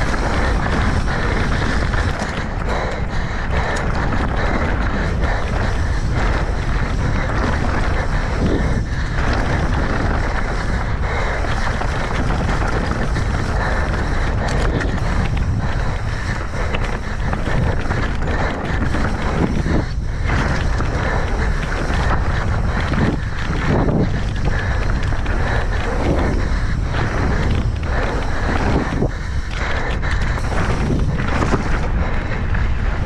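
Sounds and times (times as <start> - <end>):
bike rattling: 0.0 - 33.0
tyres rolling over dirt and rock: 0.0 - 33.0
wind rushing over microphone: 0.0 - 33.0.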